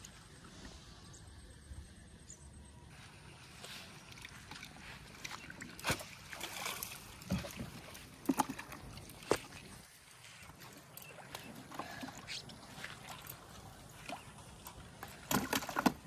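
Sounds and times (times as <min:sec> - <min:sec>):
fish splashing and thrashing: 0:03.0 - 0:16.0.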